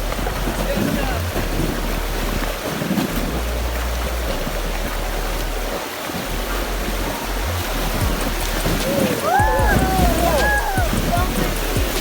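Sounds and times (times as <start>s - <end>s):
low water rumble: 0.0s - 12.0s
whitewater rushing: 0.0s - 12.0s.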